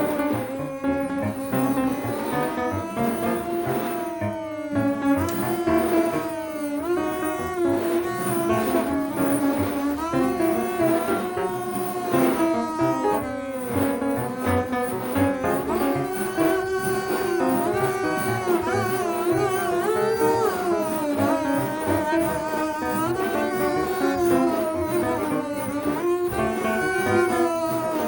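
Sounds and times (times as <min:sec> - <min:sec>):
piano: 0:00.0 - 0:28.0.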